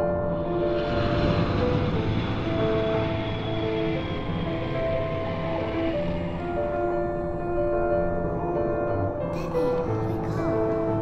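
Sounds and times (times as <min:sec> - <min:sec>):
slow orchestral film music: 0:00.0 - 0:11.0
steady low noise: 0:00.0 - 0:11.0.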